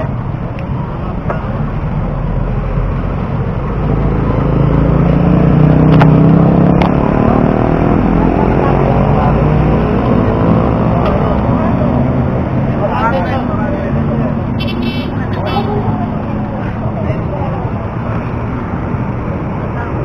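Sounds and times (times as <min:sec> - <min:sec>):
vehicle engine passing by: 0:00.8 - 0:20.0.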